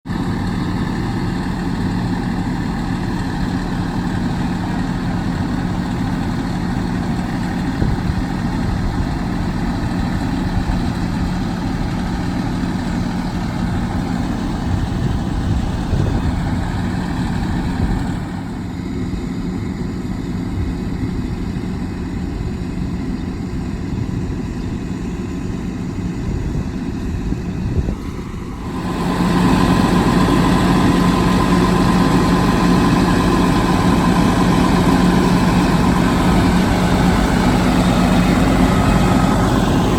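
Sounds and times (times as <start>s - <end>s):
diesel engines idling: 0.1s - 39.9s.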